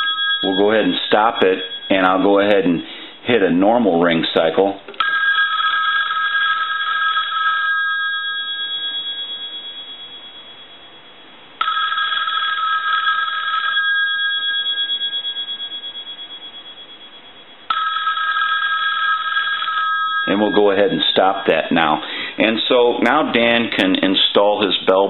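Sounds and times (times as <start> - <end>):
telephone bells ringing: 0.0 - 3.2, 5.0 - 11.0, 11.6 - 22.5.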